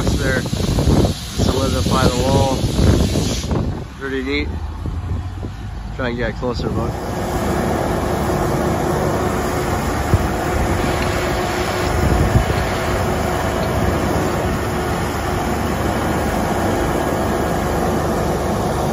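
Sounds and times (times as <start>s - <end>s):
air compressor running: 0.0s - 4.5s, 6.6s - 18.9s
concrete pump droning: 0.0s - 18.9s.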